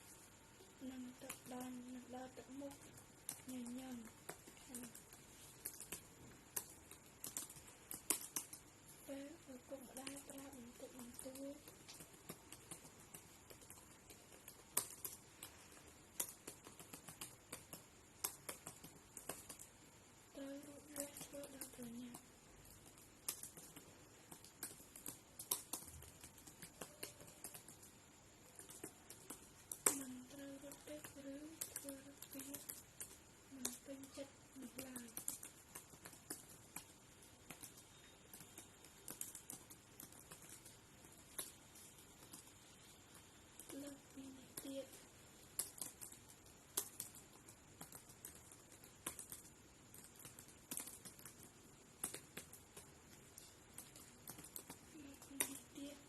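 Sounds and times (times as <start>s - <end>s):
keyboard typing: 0.8s - 19.8s, 20.4s - 56.0s.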